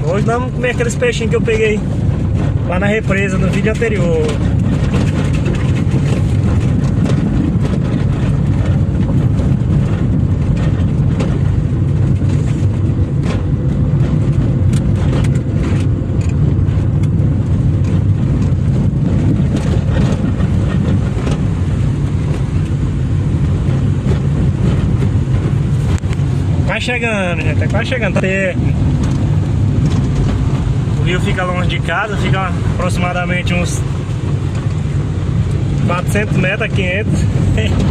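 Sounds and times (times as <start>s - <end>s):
car engine and road rumble: 0.0s - 37.9s
knocks and rattles: 0.1s - 37.9s.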